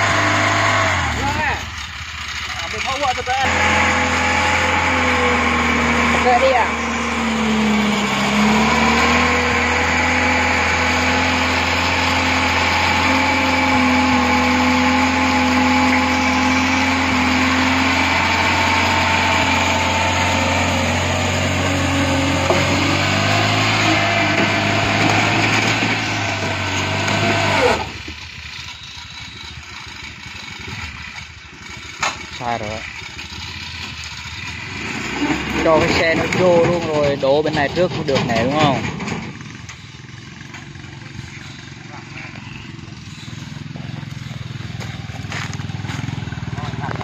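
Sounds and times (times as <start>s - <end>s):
petrol engine running hard: 0.0s - 47.0s.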